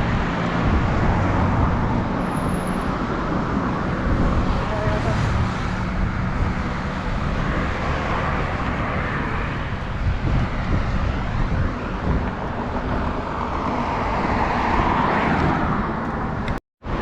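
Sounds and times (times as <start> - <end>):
road traffic noise: 0.0 - 17.0
wind rumbling on microphone: 0.0 - 17.0.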